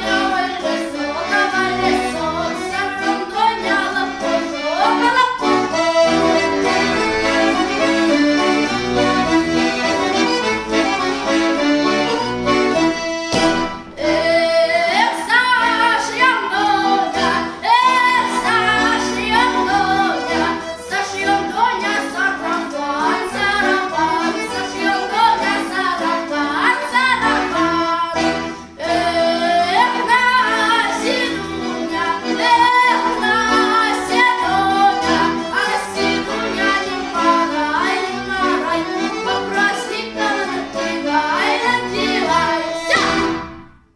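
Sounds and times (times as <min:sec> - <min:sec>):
accordion chords: 0:00.0 - 0:43.9.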